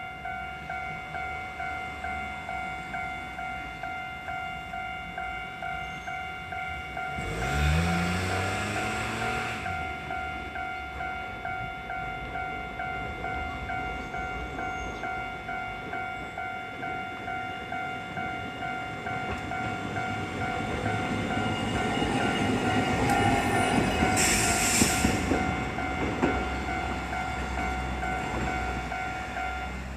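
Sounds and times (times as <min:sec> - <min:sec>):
level-crossing alarm ringing: 0:00.0 - 0:29.9
streetcar rumbling past: 0:00.0 - 0:29.9.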